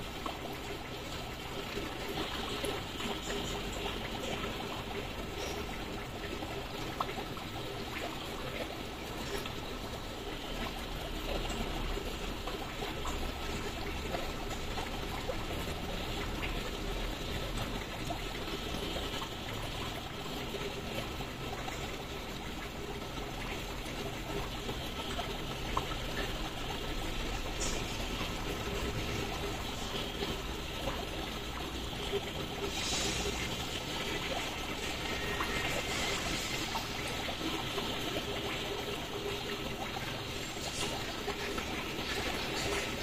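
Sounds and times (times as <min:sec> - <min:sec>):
water trickling: 0:00.0 - 0:43.0.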